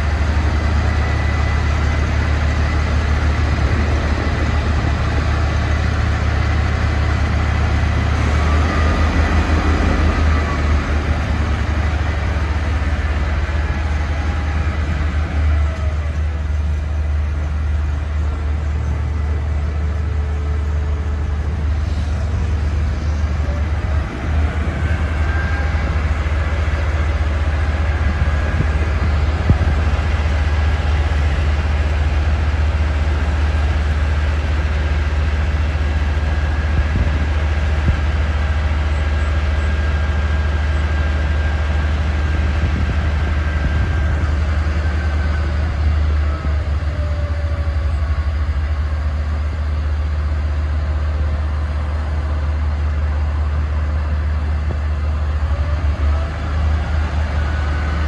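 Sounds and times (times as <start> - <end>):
heavy machinery engine rumbling: 0.0 - 58.0.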